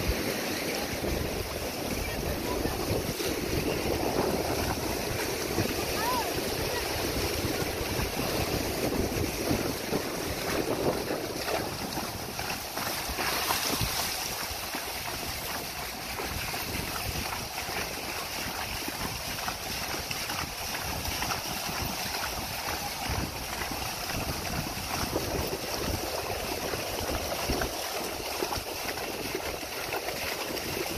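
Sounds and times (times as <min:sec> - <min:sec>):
horses splashing through water: 0:00.0 - 0:30.9
wind buffeting microphone: 0:00.0 - 0:30.9.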